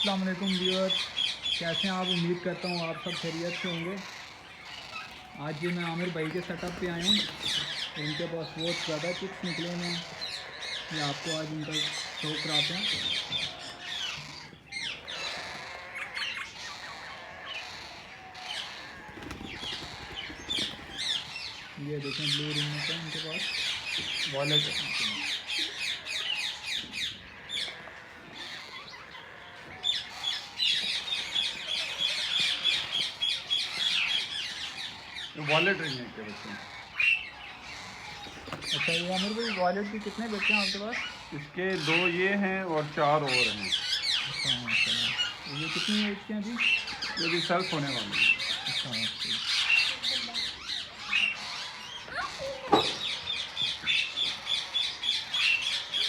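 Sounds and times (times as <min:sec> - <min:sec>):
parrot chicks squawking: 0:00.0 - 0:56.0.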